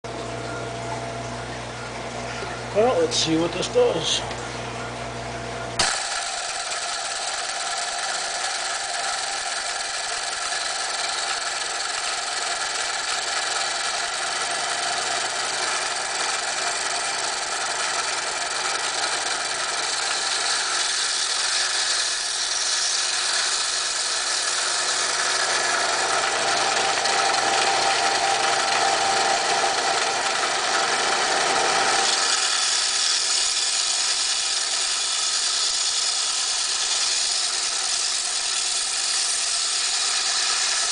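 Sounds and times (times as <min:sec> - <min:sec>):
band saw whining: 0:02.5 - 0:04.2, 0:05.6 - 0:40.9.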